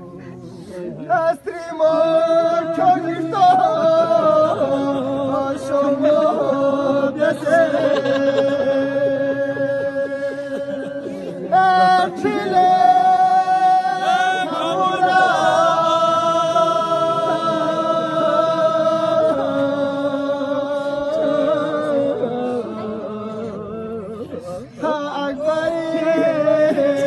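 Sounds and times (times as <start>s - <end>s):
person chanting in long notes: 0.0s - 27.0s.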